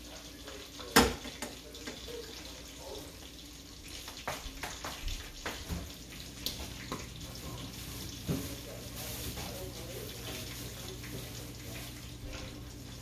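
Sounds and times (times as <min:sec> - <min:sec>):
sauce hissing and popping in pan: 0:00.0 - 0:13.0.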